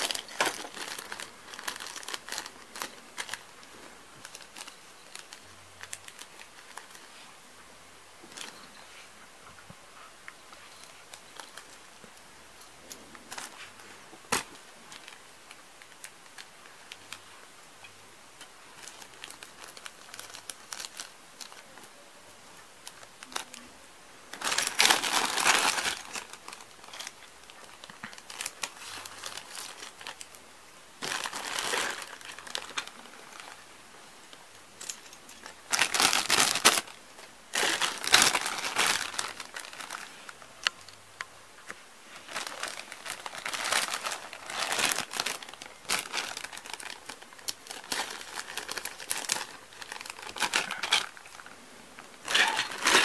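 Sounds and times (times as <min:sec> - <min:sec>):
plastic bags crinkling: 0:00.0 - 0:07.2, 0:08.2 - 0:08.7, 0:10.6 - 0:12.1, 0:12.8 - 0:17.4, 0:18.4 - 0:21.9, 0:22.8 - 0:23.7, 0:24.3 - 0:33.9, 0:34.7 - 0:41.0, 0:41.6 - 0:53.0.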